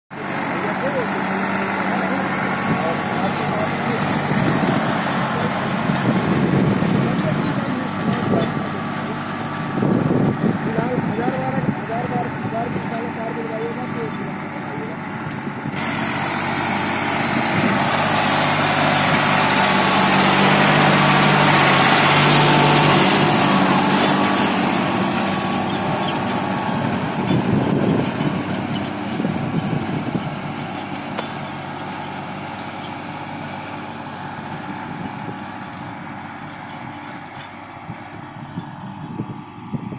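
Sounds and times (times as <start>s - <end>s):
tractor diesel engine under load: 0.1s - 39.9s.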